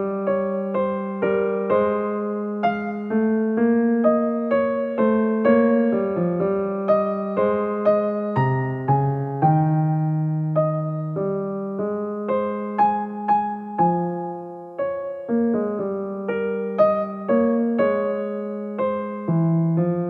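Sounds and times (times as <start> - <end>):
keyboard playing melody: 0.0 - 20.0.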